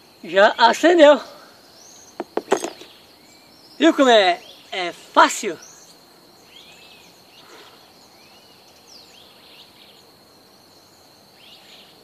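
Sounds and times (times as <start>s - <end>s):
high-pitched insect drone: 0.0s - 12.0s
small birds chirping: 0.0s - 12.0s.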